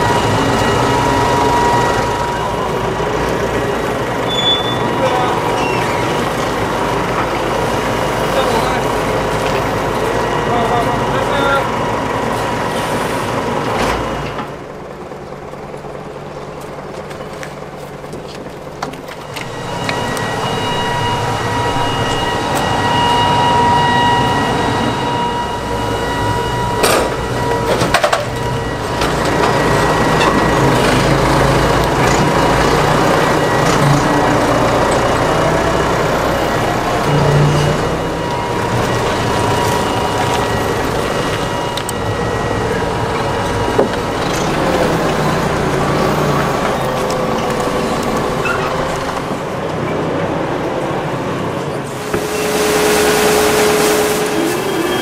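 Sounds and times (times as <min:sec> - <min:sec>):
heavy steel sliding door rolling: 0:00.0 - 0:16.9, 0:17.6 - 0:55.0
high machine whine: 0:00.0 - 0:55.0
loud machinery noise: 0:00.0 - 0:55.0.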